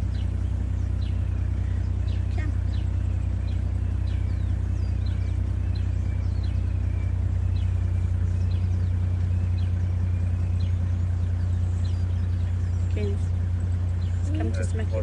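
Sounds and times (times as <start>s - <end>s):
bird chirping: 0.0s - 15.0s
vehicle engine idling: 0.0s - 15.0s.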